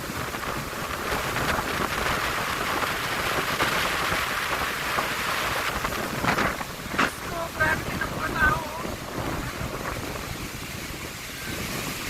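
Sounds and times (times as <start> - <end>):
rain: 0.0 - 12.0
strong wind: 0.0 - 12.0
surf: 0.0 - 12.0.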